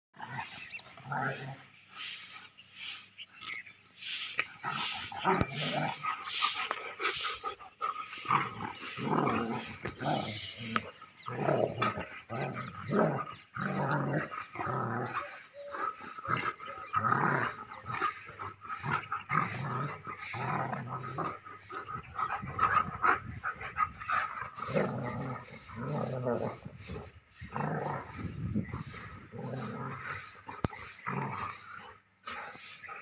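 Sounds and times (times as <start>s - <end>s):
dogs growling: 0.2s - 2.4s, 4.2s - 33.0s.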